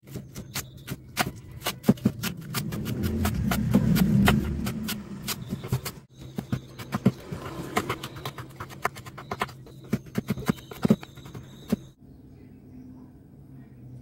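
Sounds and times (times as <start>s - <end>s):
knife chopping on wooden board: 0.1s - 11.8s.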